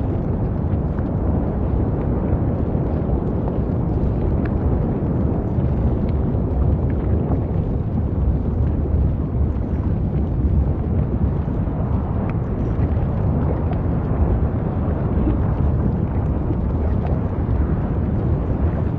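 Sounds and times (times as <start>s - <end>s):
volcano rumbling: 0.0s - 18.9s.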